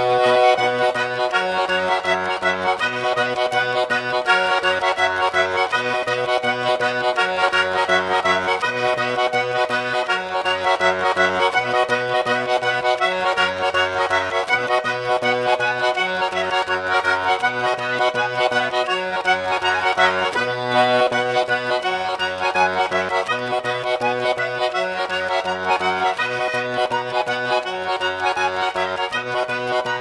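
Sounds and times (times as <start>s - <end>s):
accordion music: 0.0s - 30.0s.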